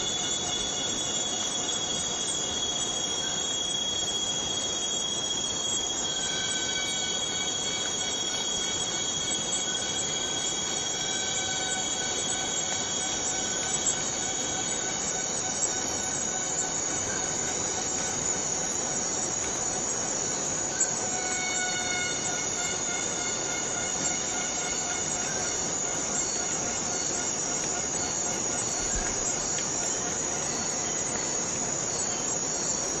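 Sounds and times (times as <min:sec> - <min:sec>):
cicada chorus droning: 0:00.0 - 0:33.0.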